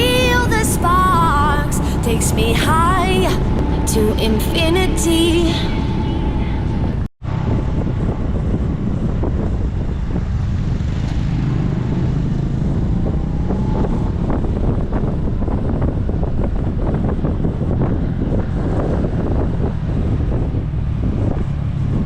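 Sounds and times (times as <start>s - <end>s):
engine running: 0.0s - 22.0s
wind buffeting microphone: 0.0s - 22.0s.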